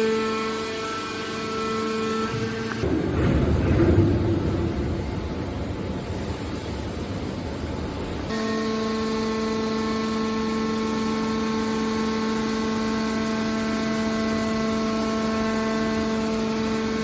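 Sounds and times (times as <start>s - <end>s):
hydraulic baler machine hum: 0.0s - 6.2s, 8.2s - 17.0s.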